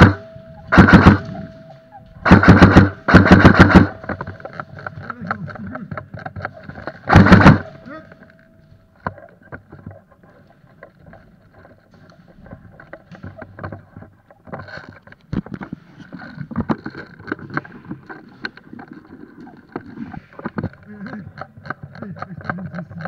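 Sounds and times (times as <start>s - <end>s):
sharp knocks and clicks: 0.0s - 23.0s.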